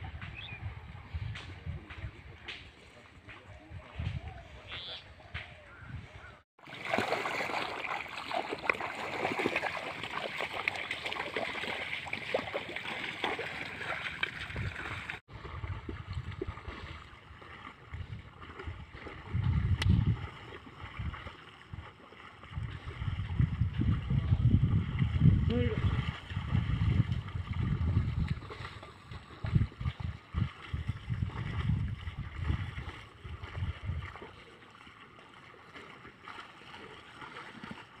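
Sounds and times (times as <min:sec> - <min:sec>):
mud and water sloshing: 0:06.6 - 0:38.0.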